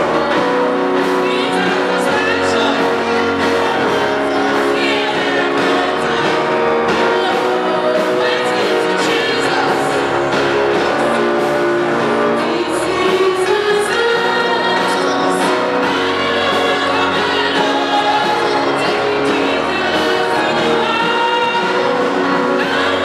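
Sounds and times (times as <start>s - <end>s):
gospel singing with instruments: 0.0s - 23.0s.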